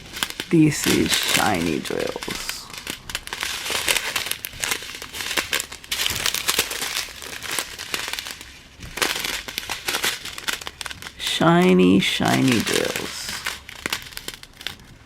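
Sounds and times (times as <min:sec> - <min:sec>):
plastic packets crinkling: 0:00.0 - 0:15.0.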